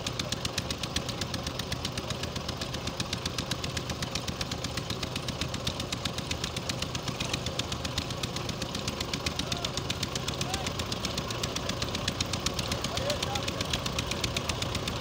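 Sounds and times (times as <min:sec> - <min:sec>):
tractor diesel engine knocking: 0:00.0 - 0:15.0.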